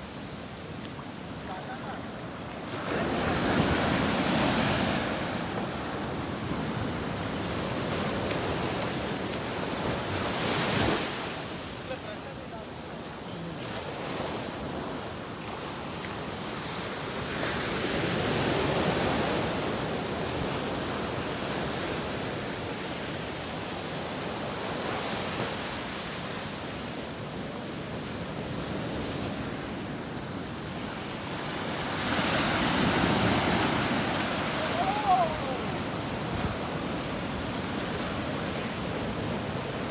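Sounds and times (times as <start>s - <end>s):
sea surf washing on shore: 0.0s - 39.9s.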